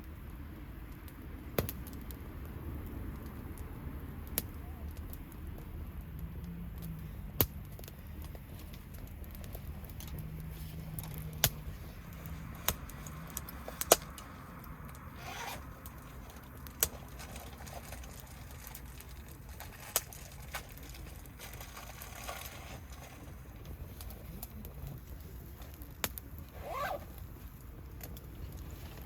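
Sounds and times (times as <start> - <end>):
low steady background noise: 0.0 - 29.0
wood bonfire crackling: 0.0 - 29.0.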